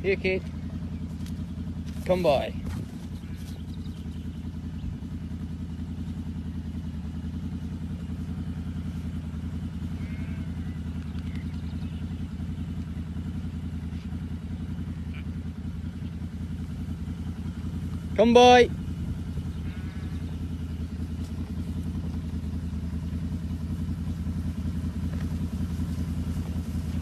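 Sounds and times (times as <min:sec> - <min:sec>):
quad bike engine idling: 0:00.0 - 0:27.0.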